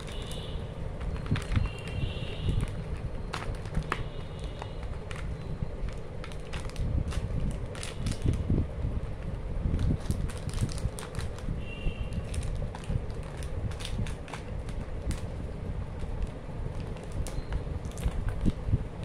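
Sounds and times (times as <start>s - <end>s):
wrappers crinkling: 0.0s - 18.6s
steady low rumble: 0.0s - 19.0s.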